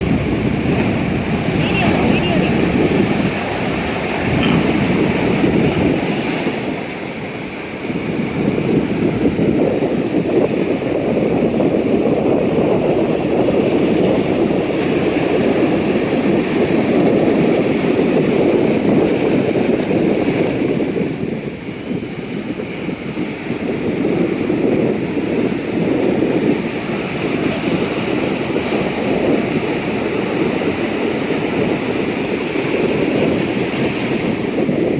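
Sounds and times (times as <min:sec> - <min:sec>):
sea waves breaking on beach: 0:00.0 - 0:34.9
wind buffeting microphone: 0:00.0 - 0:34.9.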